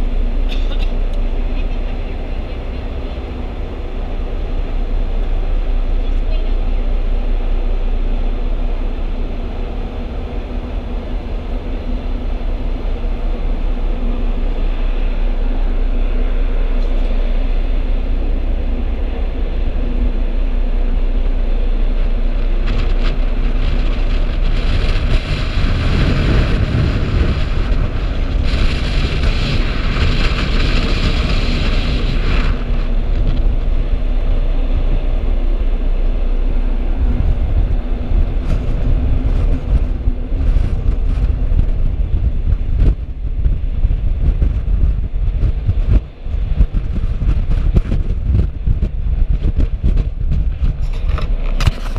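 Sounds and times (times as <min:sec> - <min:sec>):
ship engines droning: 0:00.0 - 0:51.9
wind rumbling on microphone: 0:00.0 - 0:51.9.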